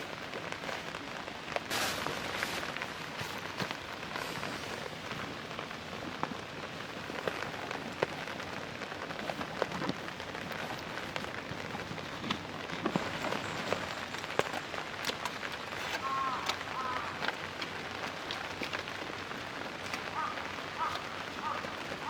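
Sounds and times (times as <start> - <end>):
rain on a tarp: 0.0 - 22.0.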